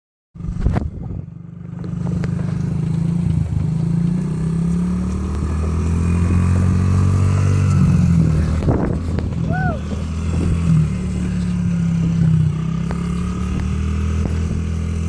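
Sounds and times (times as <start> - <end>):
dirt bike engine running: 0.4 - 15.0.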